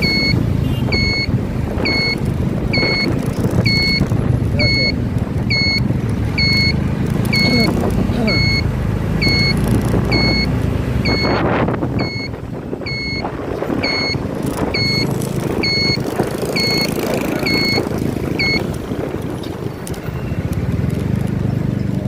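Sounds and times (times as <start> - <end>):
vehicle reversing alarm beeps: 0.0 - 18.7, 20.0 - 20.5
engine and road noise: 0.0 - 22.0.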